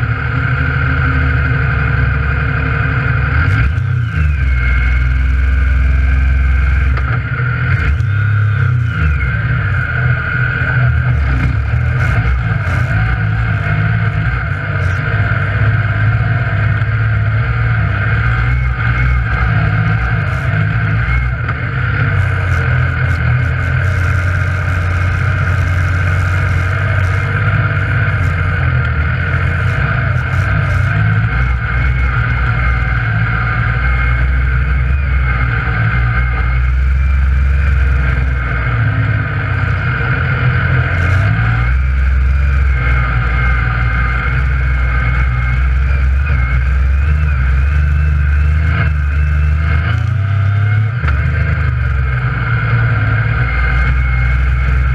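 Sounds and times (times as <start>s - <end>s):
engine running steadily: 0.0s - 54.9s.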